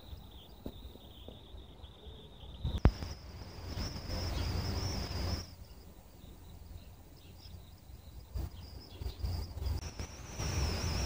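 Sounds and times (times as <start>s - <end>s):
wind through tree leaves: 0.0s - 11.0s.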